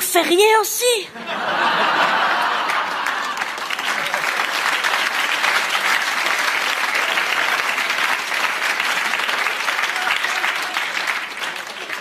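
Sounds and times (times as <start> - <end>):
audience applauding: 1.4 - 12.0.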